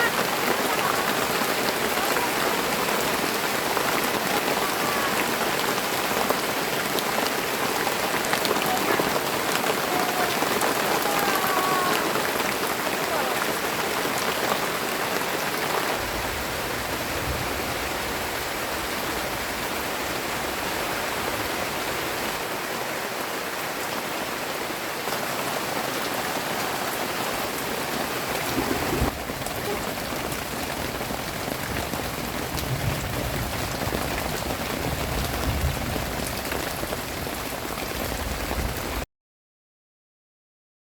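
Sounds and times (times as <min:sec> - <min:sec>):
rain pattering on surfaces: 0:00.0 - 0:39.0.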